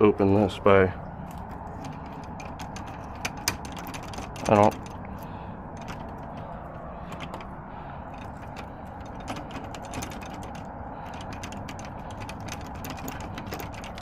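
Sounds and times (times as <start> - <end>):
low background hum: 0.0 - 14.0
lock tool clicks and scrapes: 1.3 - 7.5, 8.1 - 14.0.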